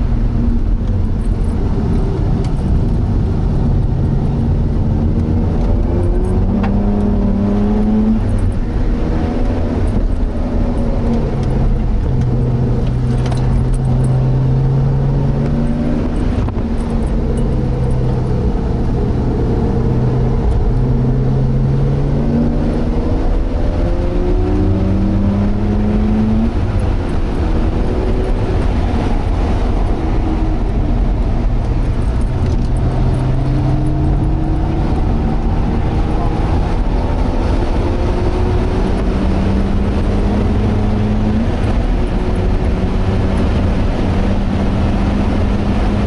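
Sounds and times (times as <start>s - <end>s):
constant low rumble: 0.0s - 46.0s
rotary engine revving in cabin: 0.0s - 46.0s.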